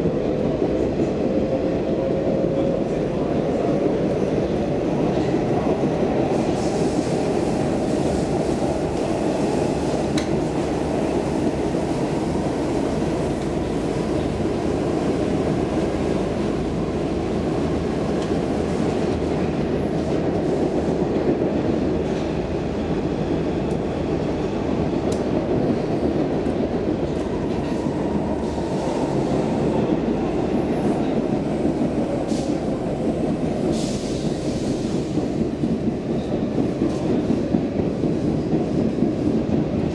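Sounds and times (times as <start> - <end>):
subway wheels rumbling on rail: 0.0 - 39.9.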